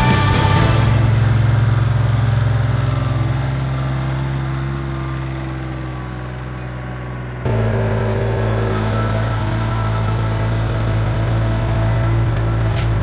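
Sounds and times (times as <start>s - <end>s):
diesel tractor running: 0.0s - 13.0s.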